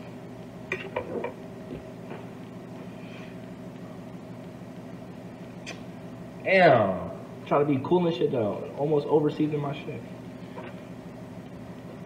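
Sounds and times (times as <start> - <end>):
steady low hum with tones: 0.0 - 12.0.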